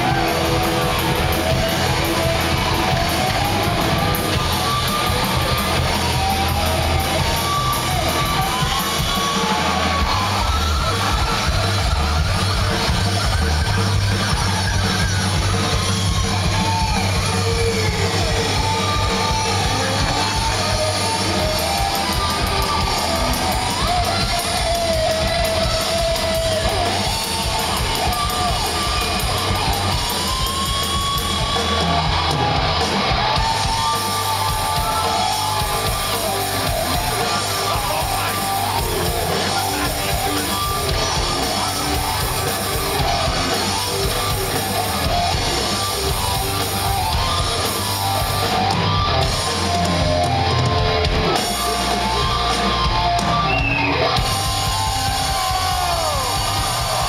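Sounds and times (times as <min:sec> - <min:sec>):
drums: 0:00.0 - 0:57.0
electric guitars: 0:00.0 - 0:57.0.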